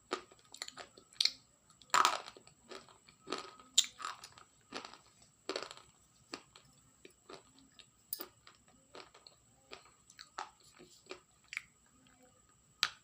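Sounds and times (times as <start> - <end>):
crunchy food being chewed: 0.0 - 13.0.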